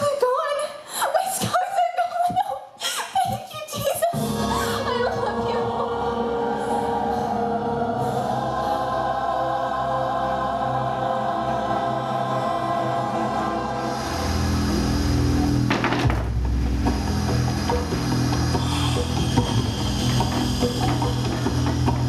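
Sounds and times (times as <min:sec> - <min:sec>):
choir holding sustained chords: 0:04.2 - 0:22.0.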